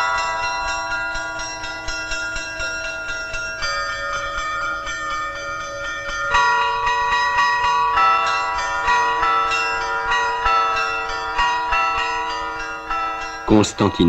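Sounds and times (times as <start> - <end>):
bells ringing: 0.0 - 14.0.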